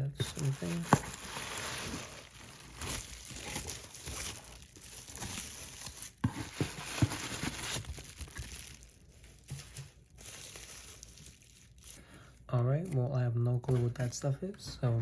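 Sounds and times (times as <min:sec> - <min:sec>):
packaging crinkling: 0:00.2 - 0:12.5.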